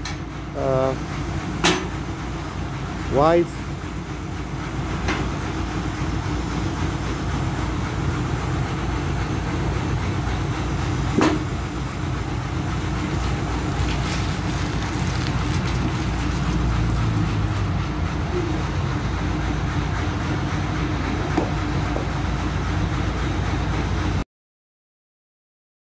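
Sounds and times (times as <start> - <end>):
band sawmill running: 0.0 - 24.2.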